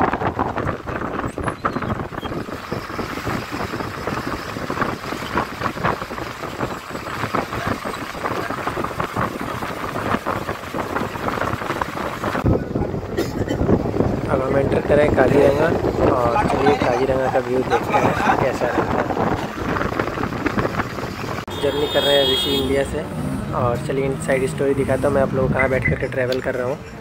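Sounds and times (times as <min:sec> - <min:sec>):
bus engine and road hum: 0:00.0 - 0:27.0.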